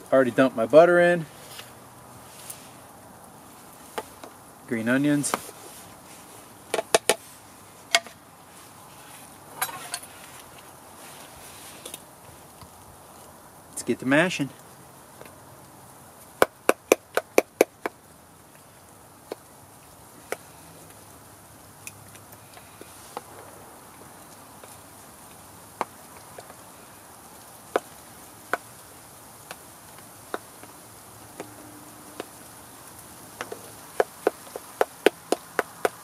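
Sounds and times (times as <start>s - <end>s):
faint hiss: 0.0s - 36.0s.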